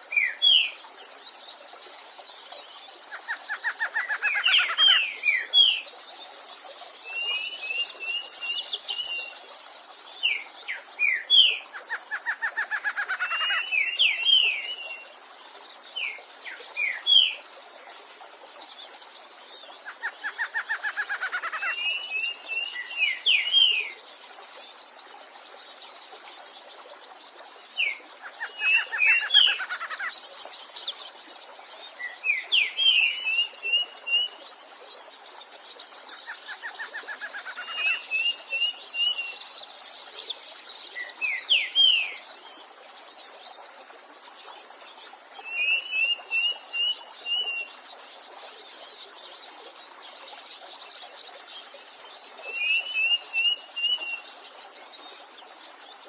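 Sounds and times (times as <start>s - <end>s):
songbirds singing: 0.0s - 56.0s
stream water rushing: 0.0s - 56.0s.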